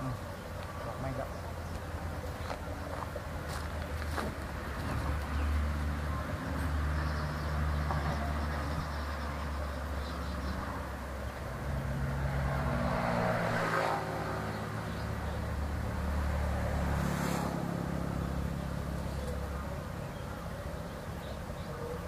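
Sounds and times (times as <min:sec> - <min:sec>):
vehicle engines passing: 0:00.0 - 0:22.0.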